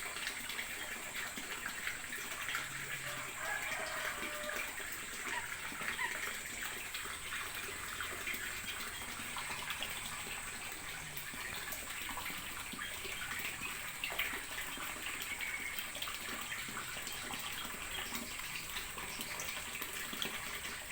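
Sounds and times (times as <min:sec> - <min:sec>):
running water splashing: 0:00.0 - 0:20.9.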